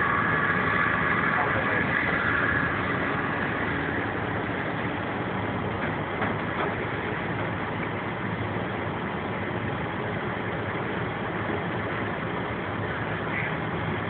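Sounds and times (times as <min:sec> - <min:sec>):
noisy rush: 0:00.0 - 0:14.0
vehicle engine running: 0:00.0 - 0:14.0.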